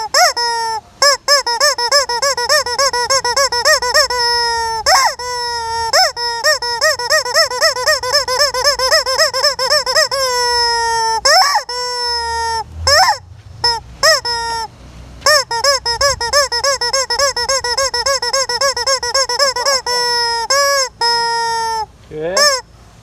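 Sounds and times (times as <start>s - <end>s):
squeaky rubber chicken toy honks: 0.0s - 22.7s.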